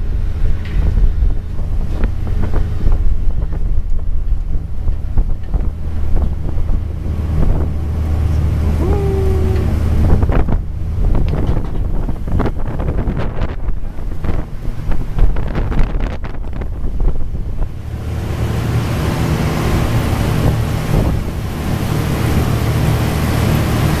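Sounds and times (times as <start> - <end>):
boat engine humming: 0.0 - 24.0
wind buffeting microphone: 0.0 - 24.0.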